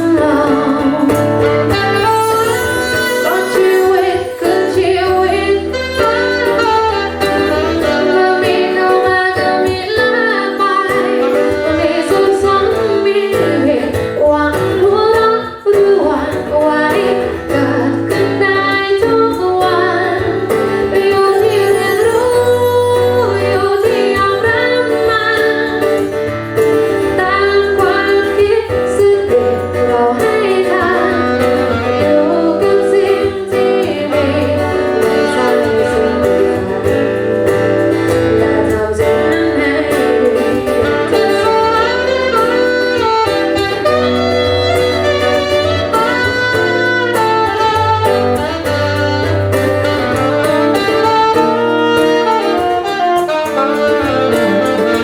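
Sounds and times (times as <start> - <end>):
band playing a song: 0.0 - 13.5, 20.3 - 28.2, 28.9 - 55.0.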